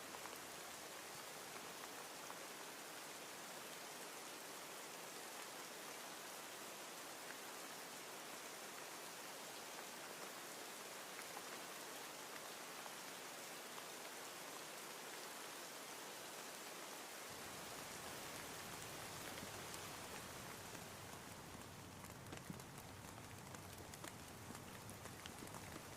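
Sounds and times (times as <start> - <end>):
faint rain patter: 0.0 - 25.9.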